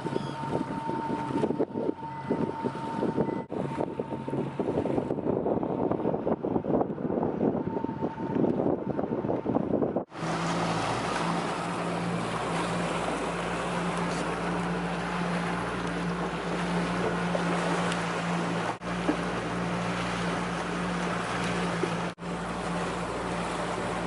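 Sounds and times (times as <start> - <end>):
motorboat engine hum: 0.0 - 24.0
rush of wind and water: 0.0 - 24.0.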